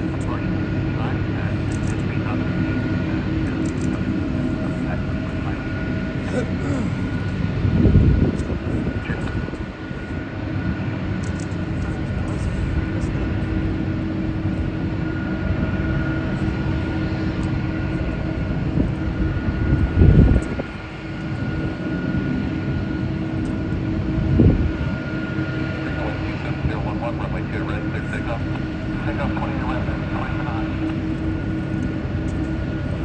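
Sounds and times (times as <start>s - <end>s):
jet engines running: 0.0s - 33.0s
low rumbles: 0.0s - 33.0s.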